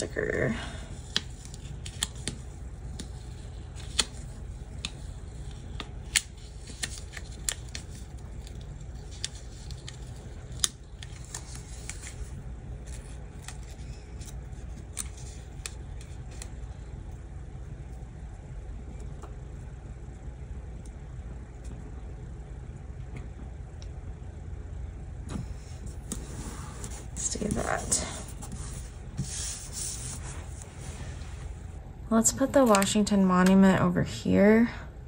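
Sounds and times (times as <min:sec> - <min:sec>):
low hum: 0:00.0 - 0:35.0.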